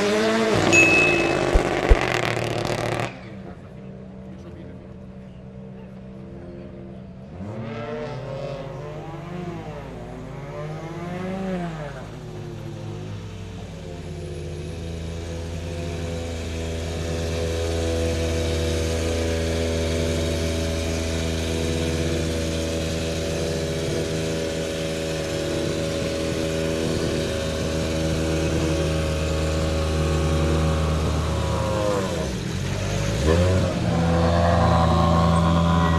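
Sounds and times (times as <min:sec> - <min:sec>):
car engine revving and idling: 0:00.0 - 0:35.9.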